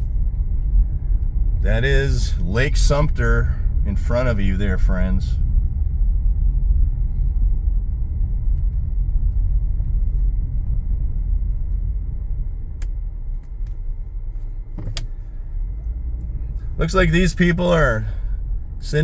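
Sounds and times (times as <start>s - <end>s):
car interior road rumble: 0.0s - 19.0s.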